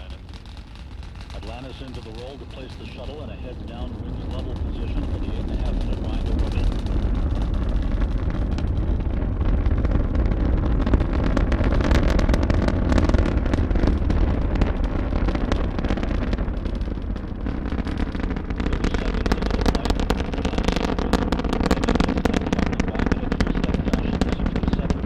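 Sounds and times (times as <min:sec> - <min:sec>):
distant rocket rumble: 0:00.0 - 0:25.0
rocket crackling: 0:00.0 - 0:25.0.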